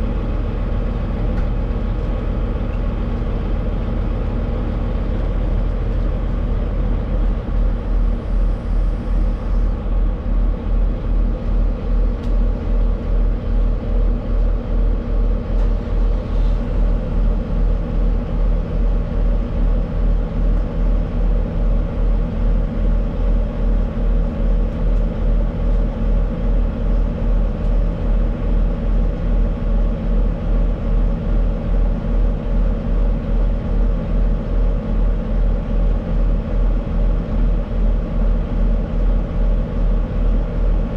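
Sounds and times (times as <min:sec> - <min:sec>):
truck engine and road drone: 0:00.0 - 0:40.9.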